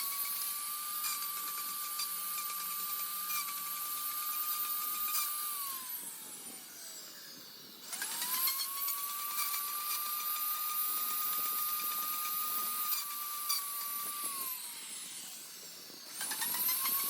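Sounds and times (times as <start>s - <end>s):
electric power tool whining: 0.0s - 17.0s.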